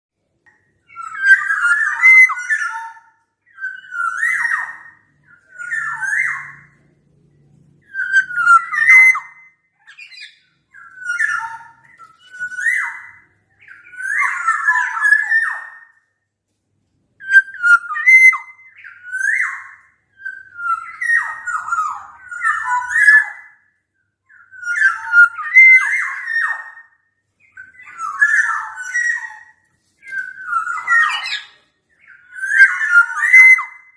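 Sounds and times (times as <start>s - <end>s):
bird singing fluting whistles: 0.9s - 6.8s, 7.8s - 15.9s, 17.2s - 23.7s, 24.3s - 33.9s.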